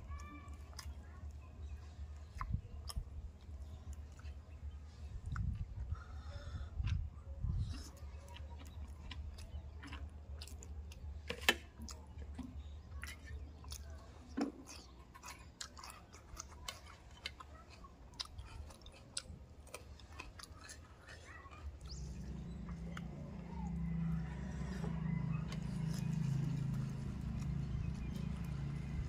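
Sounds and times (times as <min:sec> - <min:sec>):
person chewing and smacking: 0:00.1 - 0:29.0.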